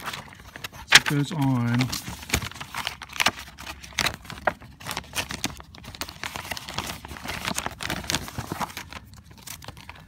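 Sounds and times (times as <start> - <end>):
plastic sleeve crinkling: 0.0 - 10.0.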